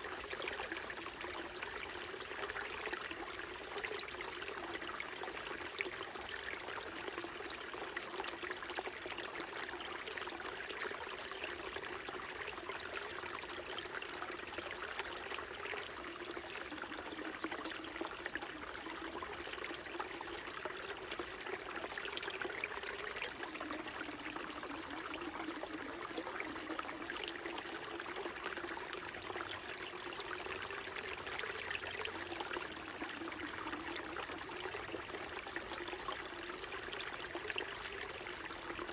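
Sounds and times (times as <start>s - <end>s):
mountain brook trickling: 0.0s - 38.9s.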